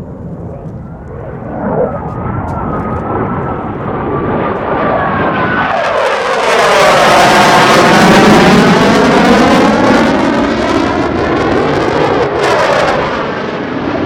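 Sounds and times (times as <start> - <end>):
falling jet whine: 0.0 - 14.0
jet flying low: 0.0 - 14.0.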